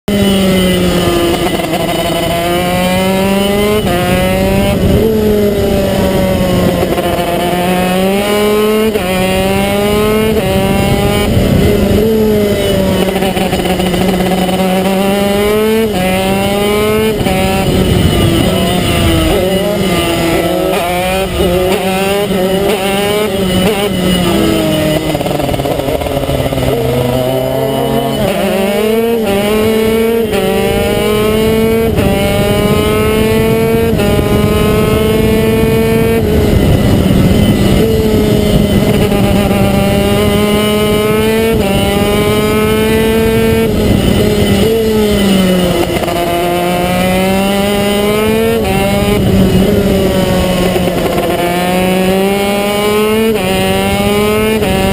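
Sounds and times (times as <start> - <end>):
kart engine revving: 0.0 - 54.9.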